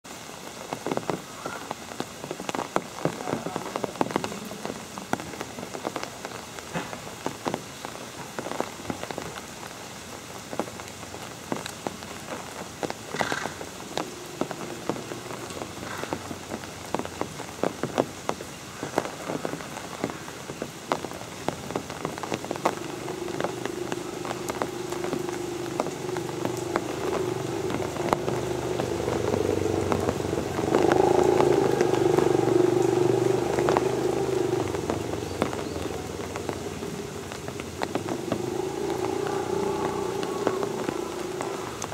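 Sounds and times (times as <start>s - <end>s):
steady hiss: 0.1s - 41.9s.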